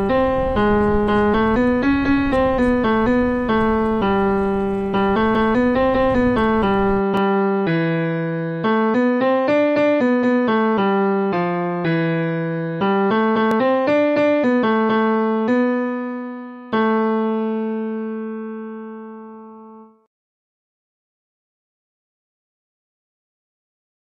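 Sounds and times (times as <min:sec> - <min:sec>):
piano melody: 0:00.0 - 0:20.1.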